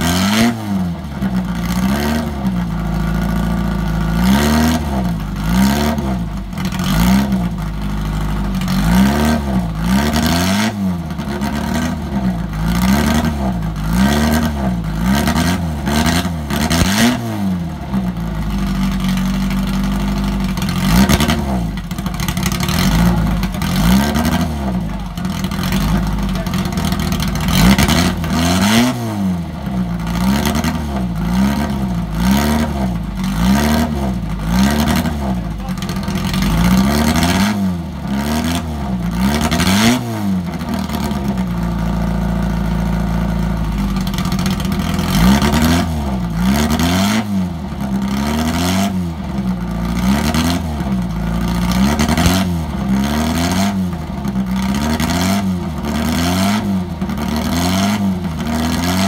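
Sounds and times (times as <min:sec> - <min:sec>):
engine idling: 0:00.9 - 0:10.4, 0:11.0 - 0:16.9, 0:17.6 - 0:39.6, 0:40.4 - 0:48.3, 0:49.2 - 0:56.0.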